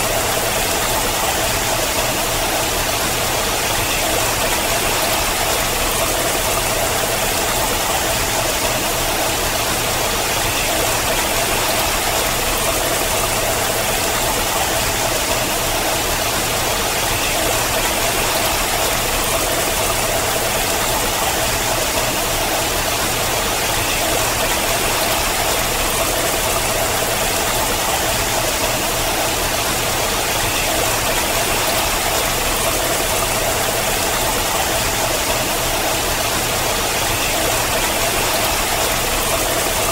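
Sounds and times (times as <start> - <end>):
water rushing down rock: 0.0 - 39.9.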